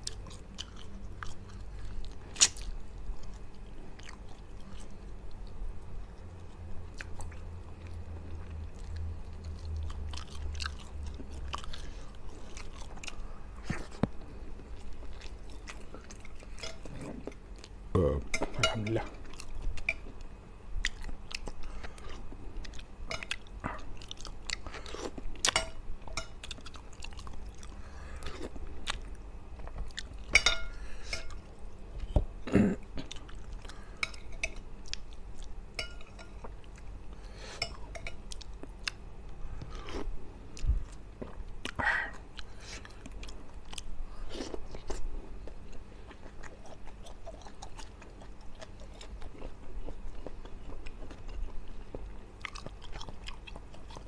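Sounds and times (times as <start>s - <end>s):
man chewing with wet mouth clicks: 0.0s - 17.8s, 18.8s - 30.4s, 33.0s - 54.0s.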